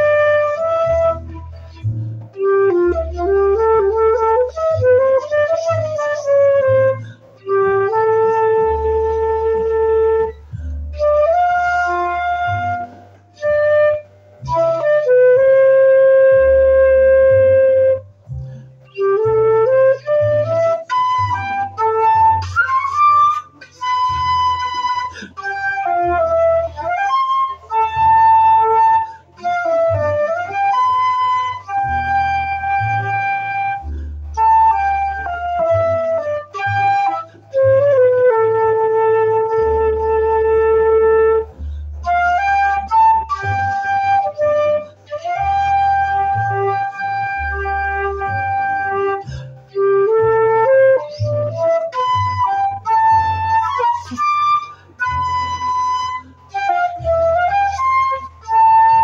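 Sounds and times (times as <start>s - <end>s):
flute playing a melody: 0.0s - 59.0s
low bass line: 0.0s - 59.0s.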